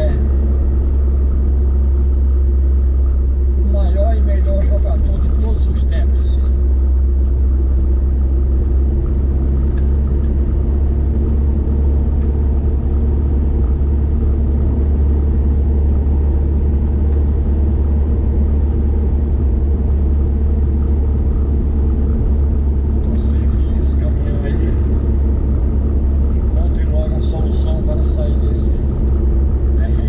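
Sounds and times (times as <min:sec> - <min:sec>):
car driving on highway: 0:00.0 - 0:30.0.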